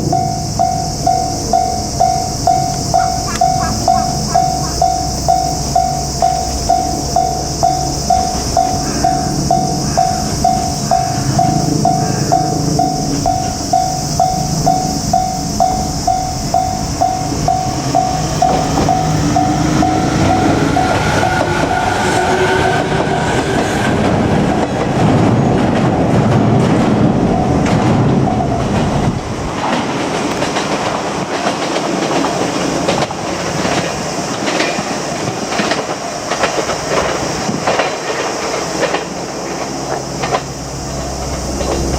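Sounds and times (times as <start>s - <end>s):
electric train motor whine: 0.0s - 41.9s
level crossing warning bell: 0.0s - 41.9s
wheel and rail rushing noise: 0.0s - 41.9s
wheels clicking over rail joints: 0.0s - 41.9s.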